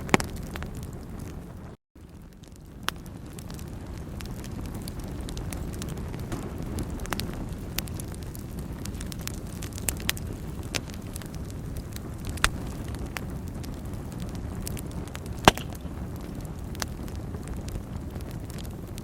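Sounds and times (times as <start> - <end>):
fire crackling and popping: 0.0 - 19.0
fire flames rumbling: 0.0 - 19.0.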